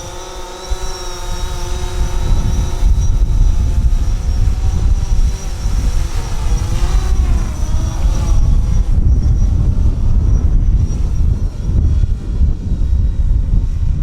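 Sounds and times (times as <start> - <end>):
drone propellers whining: 0.0 - 14.0
wind buffeting microphone: 0.0 - 14.0.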